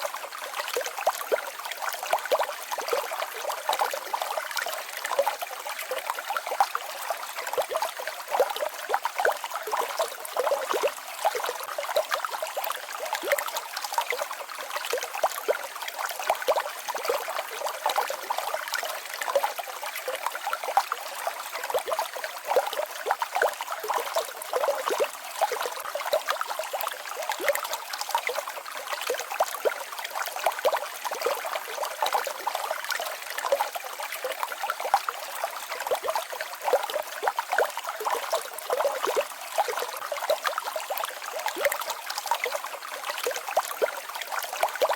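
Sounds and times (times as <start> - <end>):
stream babbling over rocks: 0.0 - 44.9.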